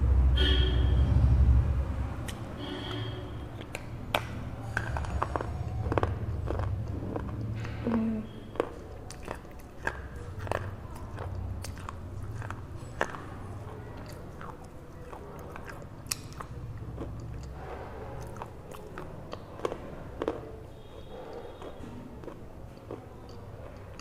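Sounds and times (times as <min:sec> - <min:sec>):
crunching and chewing: 0:02.2 - 0:24.0.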